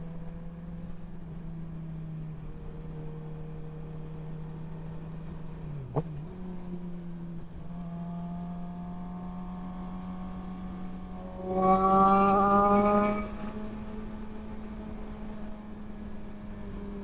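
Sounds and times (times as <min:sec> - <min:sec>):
road and wind rush: 0:00.0 - 0:17.0
motorcycle engine running: 0:02.5 - 0:17.0.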